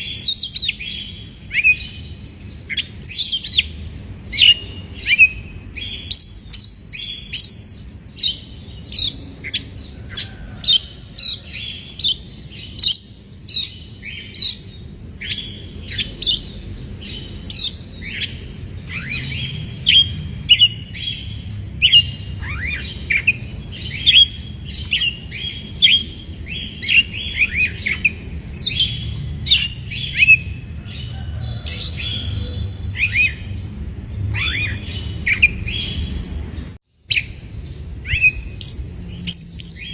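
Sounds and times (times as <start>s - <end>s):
bird singing whistled notes: 0.0s - 30.6s, 31.6s - 33.6s, 34.3s - 36.1s, 37.1s - 39.9s
low background rumble: 0.0s - 39.9s.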